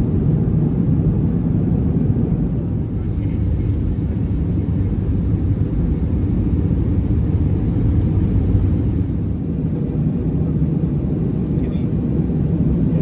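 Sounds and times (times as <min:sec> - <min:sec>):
airplane cabin jet engine rumble: 0:00.0 - 0:13.0.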